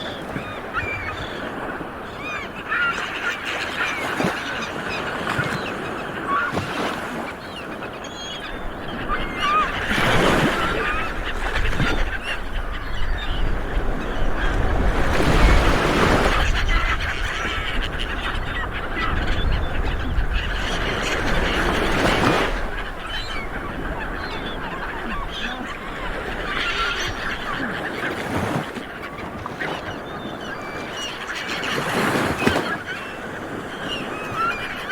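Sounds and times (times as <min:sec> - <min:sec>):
birds calling: 0:00.0 - 0:34.9
sea waves washing on shore: 0:00.0 - 0:34.9.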